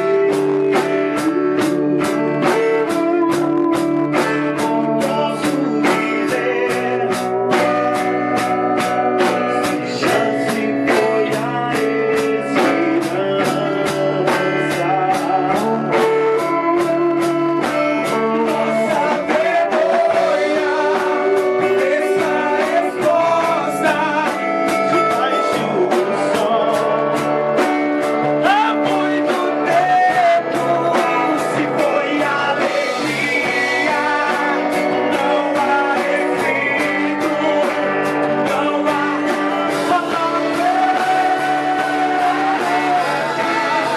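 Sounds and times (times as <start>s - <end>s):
bass guitar: 0.0s - 43.9s
drum kit steady beat: 0.0s - 43.9s
electric guitar: 0.0s - 43.9s
person singing: 0.0s - 43.9s.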